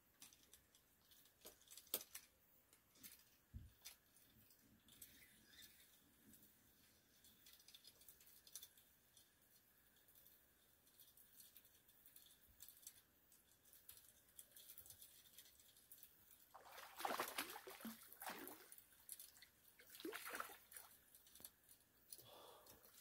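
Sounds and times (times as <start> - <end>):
water splashing and trickling: 4.0 - 23.0.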